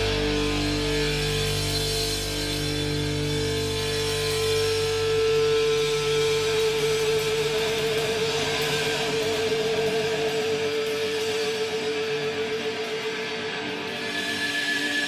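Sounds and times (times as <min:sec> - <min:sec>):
electric guitar long wavering note: 0:00.0 - 0:15.0
thrash metal band playing: 0:00.0 - 0:15.0.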